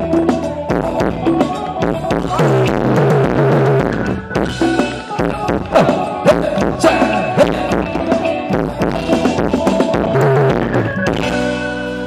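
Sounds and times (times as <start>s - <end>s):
band dance music: 0.0s - 12.0s
drum kit beat: 0.0s - 12.0s.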